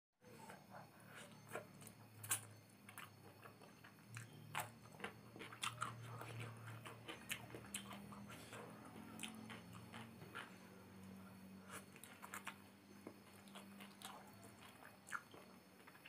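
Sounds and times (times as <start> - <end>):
chewing with wet smacks: 0.4 - 16.0.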